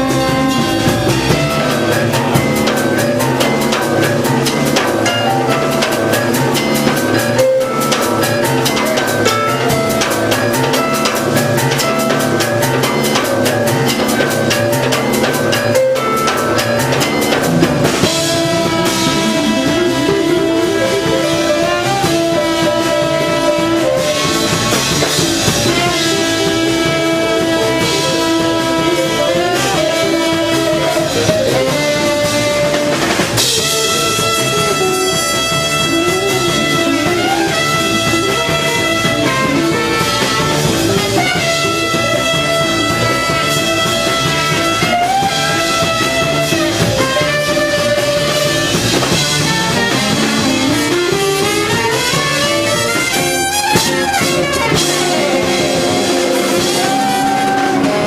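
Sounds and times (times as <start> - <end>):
drums and cymbals: 0.0 - 58.0
jazz band playing live: 0.0 - 58.0.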